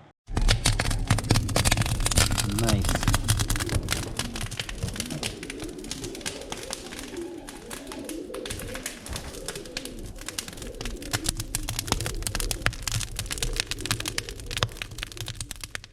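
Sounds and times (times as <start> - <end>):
sharp crackling clicks: 0.3 - 15.9
pigeons cooing: 1.3 - 15.9.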